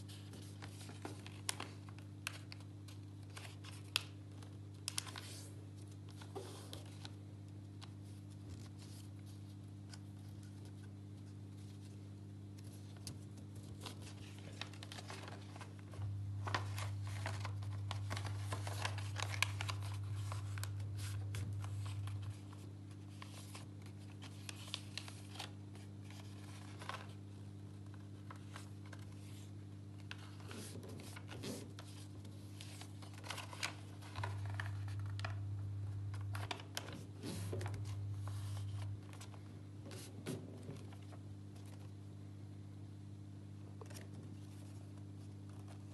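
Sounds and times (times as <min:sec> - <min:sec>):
paper folding and crackling: 0:00.0 - 0:42.0, 0:43.8 - 0:45.9
low steady hum: 0:00.0 - 0:45.9.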